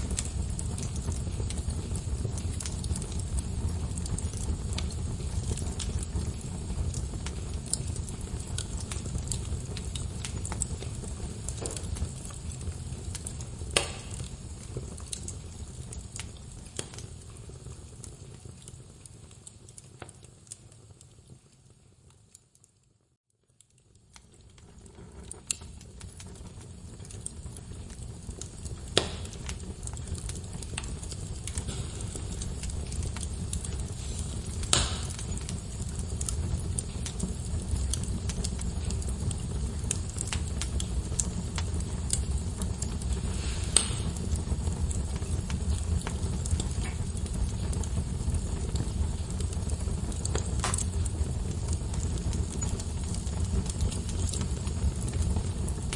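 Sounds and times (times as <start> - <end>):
fire rumbling: 0.0 - 55.9
wood crackling and popping: 0.0 - 55.9.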